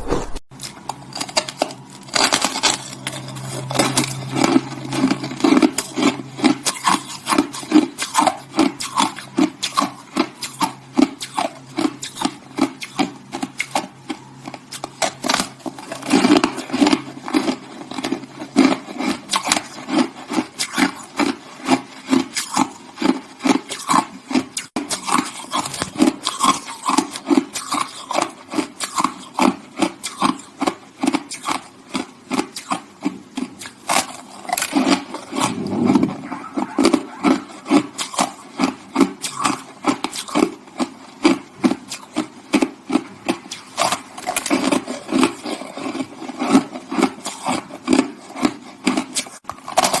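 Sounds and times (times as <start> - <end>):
person chewing crunchy ice: 0.0 - 50.0.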